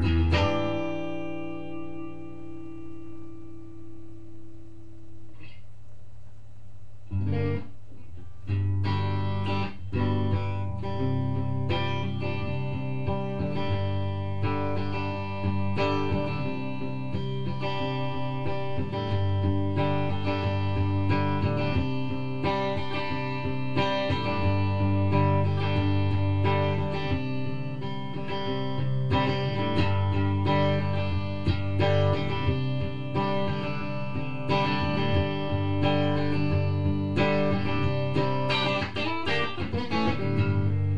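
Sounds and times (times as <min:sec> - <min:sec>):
plucked and strummed guitar: 0:00.0 - 0:06.3, 0:07.0 - 0:40.9.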